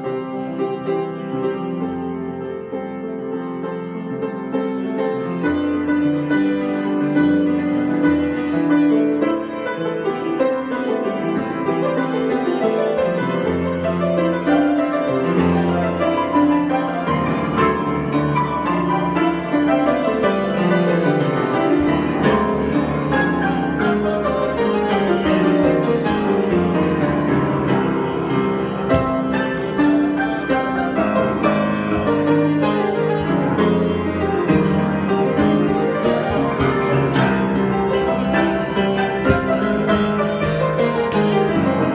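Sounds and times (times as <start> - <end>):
piano playing: 0.0 - 41.9.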